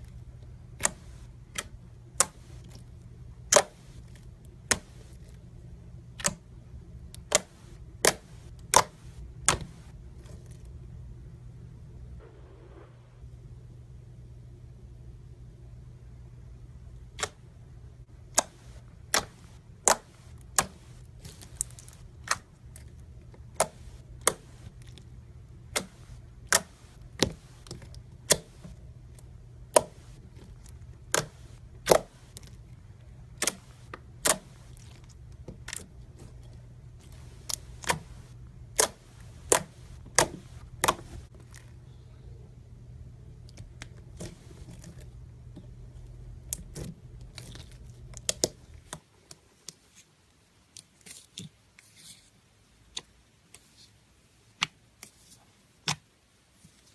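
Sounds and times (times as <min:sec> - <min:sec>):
low steady hum: 0:00.0 - 0:56.9.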